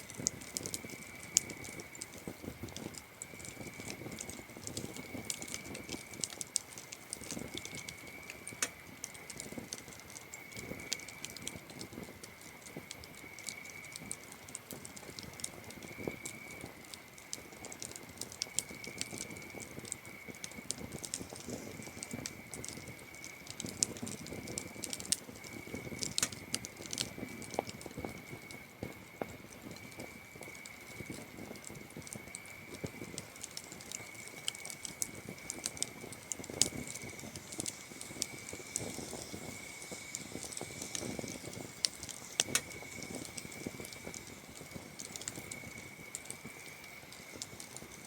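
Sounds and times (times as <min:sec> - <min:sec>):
campfire crackling and popping: 0:00.0 - 0:48.0
cricket trill: 0:00.1 - 0:48.0.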